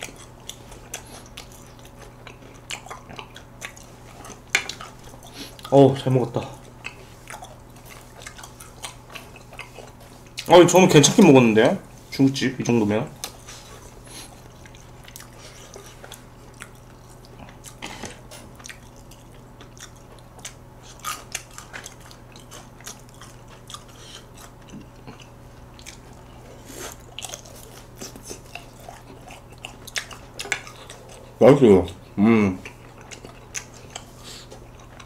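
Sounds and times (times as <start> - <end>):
chewing and biting food: 0.0 - 11.3, 13.2 - 35.0
low steady hum: 0.0 - 35.0.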